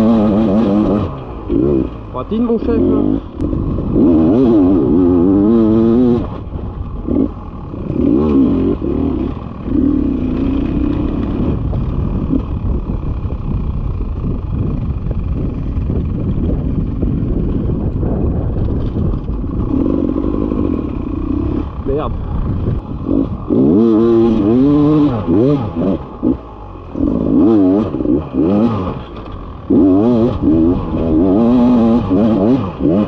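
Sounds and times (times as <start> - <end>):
dirt bike engine revving: 0.0 - 15.9, 19.2 - 33.0.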